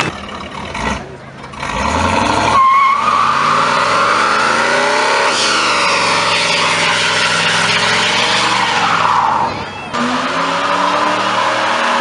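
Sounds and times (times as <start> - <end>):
tyres squealing on pavement: 0.0 - 12.0
car engine revving high: 0.7 - 12.0.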